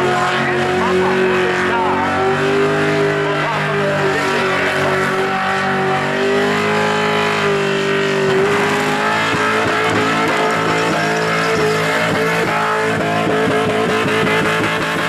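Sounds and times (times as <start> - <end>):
car engine at high revs: 0.0 - 15.0
tyres spinning: 0.5 - 15.0.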